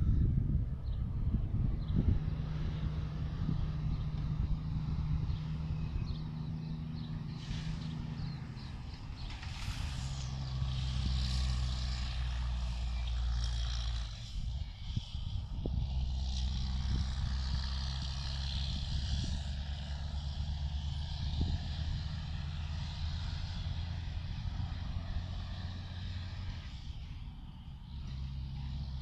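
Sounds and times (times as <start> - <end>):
distant diesel locomotive drone: 0.0 - 29.0.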